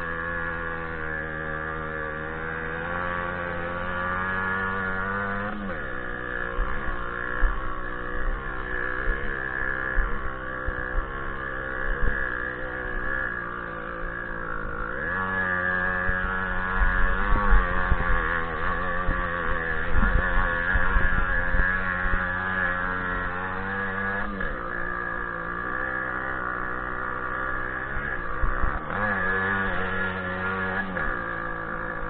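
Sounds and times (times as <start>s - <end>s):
moped engine revving: 0.0s - 32.0s.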